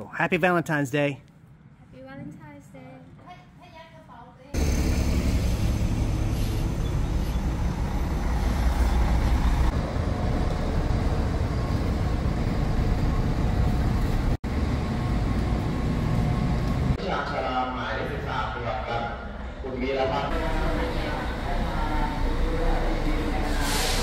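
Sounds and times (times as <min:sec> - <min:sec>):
bus engines rumbling: 0:04.1 - 0:24.0.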